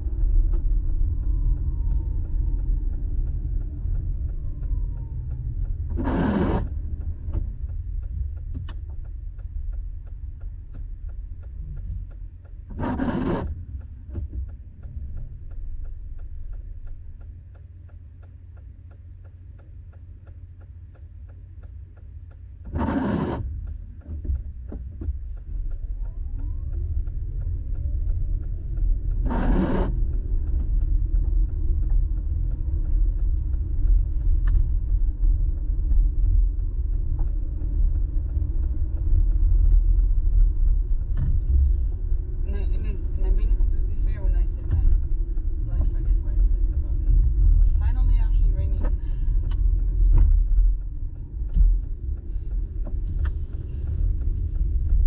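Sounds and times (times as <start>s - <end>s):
car engine and tyres on wet road: 0.0s - 55.0s
faint steady ticking: 0.0s - 55.0s
windshield wipers swishing: 0.0s - 55.0s.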